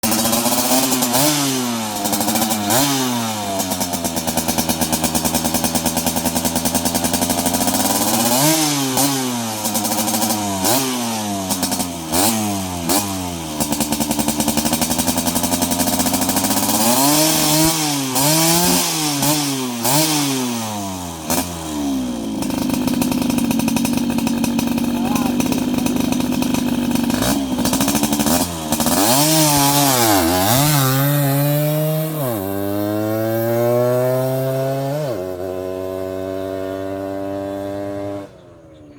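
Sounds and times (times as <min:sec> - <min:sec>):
two-stroke motorcycle engine revving: 0:00.0 - 0:38.9.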